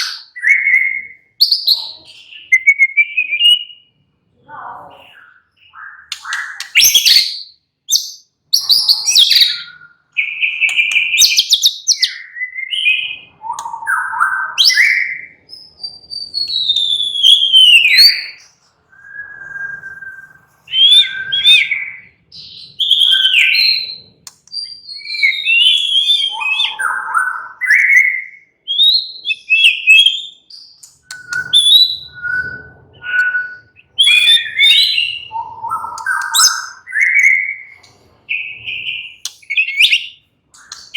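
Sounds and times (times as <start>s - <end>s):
bird singing whistled phrases: 0.0s - 3.9s, 4.8s - 40.9s.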